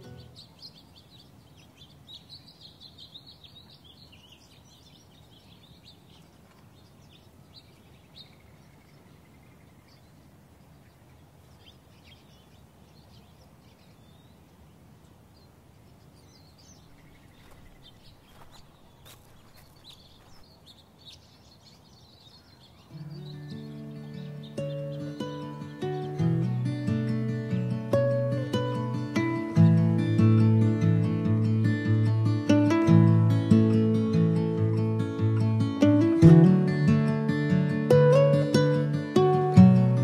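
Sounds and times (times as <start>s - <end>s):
low outdoor background noise: 0.0s - 40.0s
small birds chirping: 0.0s - 40.0s.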